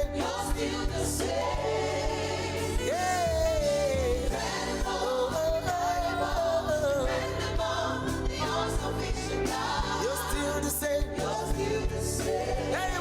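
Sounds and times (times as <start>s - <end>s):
band with bass and drums: 0.0s - 13.0s
voices singing gospel: 0.0s - 13.0s.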